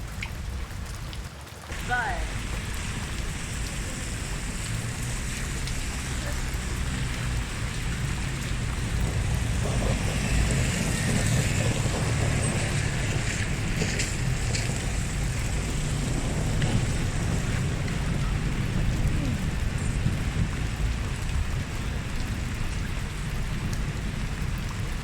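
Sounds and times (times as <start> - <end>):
steady rain: 0.0 - 25.0
traffic on wet streets: 0.0 - 25.0
low vehicle rumble: 1.7 - 25.0.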